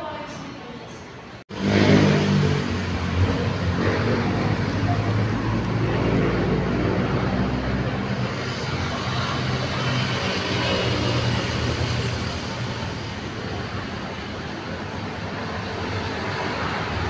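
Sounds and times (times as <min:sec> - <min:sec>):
road noise: 0:00.7 - 0:17.0
vehicle engines humming: 0:01.5 - 0:17.0.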